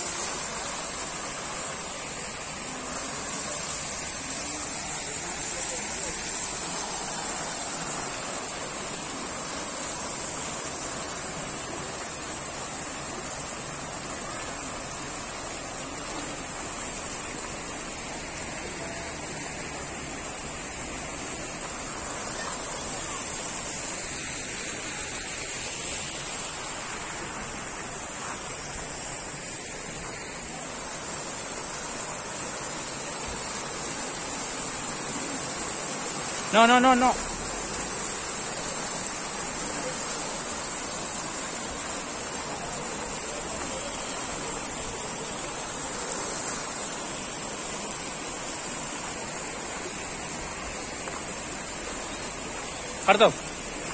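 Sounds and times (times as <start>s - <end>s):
fountain water splashing: 0.0s - 53.9s.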